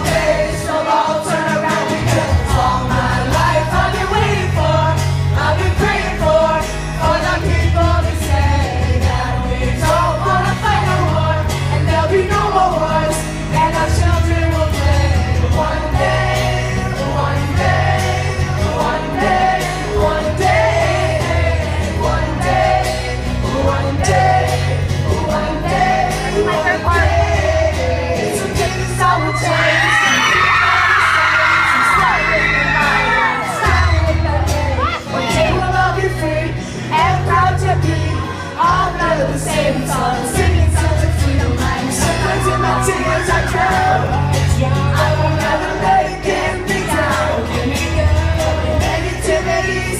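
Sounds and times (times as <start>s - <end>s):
men singing: 0.0s - 49.9s
pulsing bass line: 1.6s - 49.9s.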